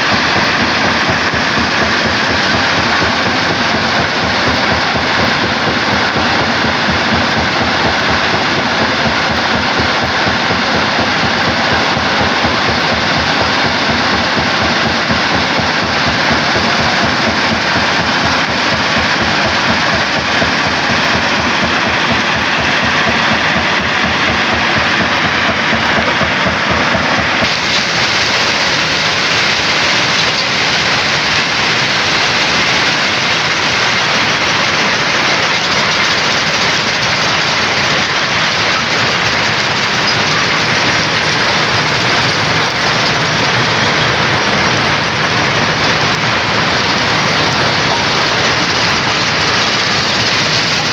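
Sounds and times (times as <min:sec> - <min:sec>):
stone crusher crushing rock: 0:00.0 - 0:50.9.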